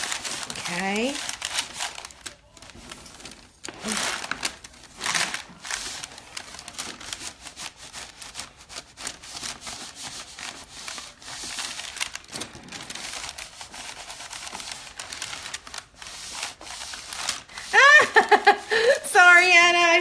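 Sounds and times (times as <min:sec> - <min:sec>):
paper and cloth rustling: 0:00.0 - 0:20.0.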